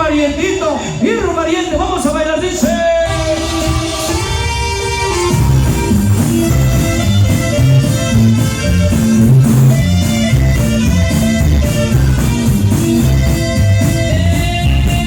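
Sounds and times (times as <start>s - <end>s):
instrumental dance music: 0.0s - 15.0s.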